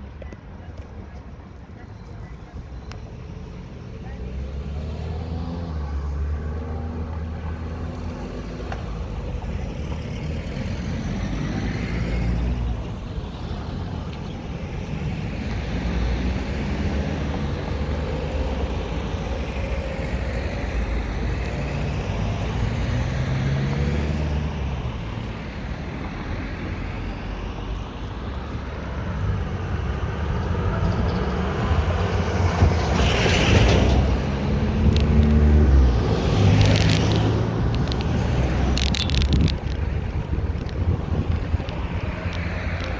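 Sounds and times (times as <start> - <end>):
cars and trucks passing: 0.0 - 42.9.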